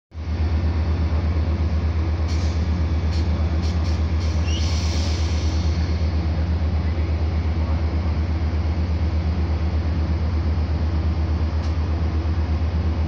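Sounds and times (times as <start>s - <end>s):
diesel locomotive idling: 0.2s - 13.0s.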